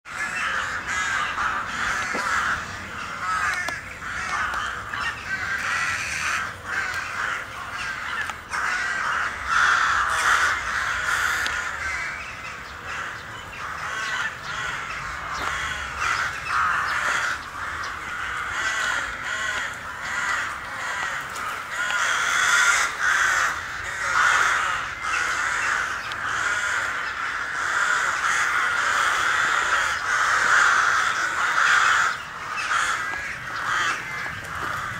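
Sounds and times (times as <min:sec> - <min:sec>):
crows cawing: 0:00.1 - 0:34.9.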